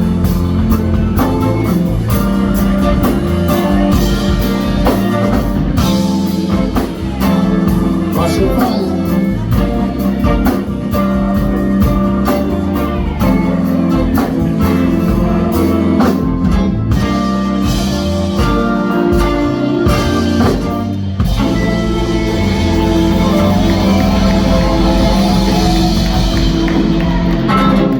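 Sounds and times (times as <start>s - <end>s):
drum kit beat: 0.0s - 27.9s
live band playing: 0.0s - 27.9s.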